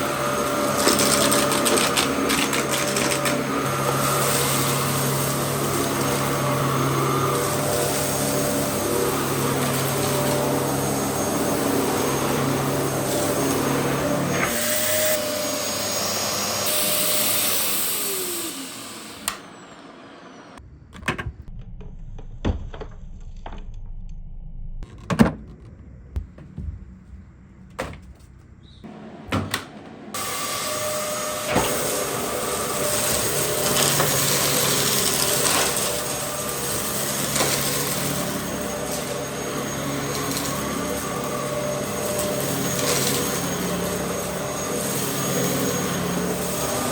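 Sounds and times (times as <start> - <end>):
vacuum cleaner motor running: 0.0 - 20.5, 28.9 - 46.9.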